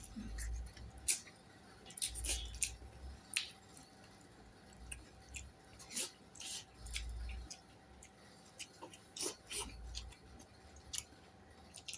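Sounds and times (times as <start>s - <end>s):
person chewing food: 0.0s - 11.9s.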